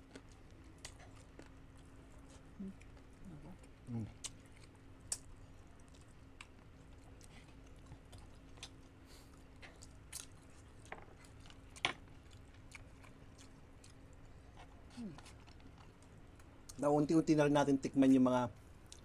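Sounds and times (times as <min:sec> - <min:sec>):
close-up chewing: 0:00.0 - 0:16.8
faint steady hum: 0:00.0 - 0:19.0.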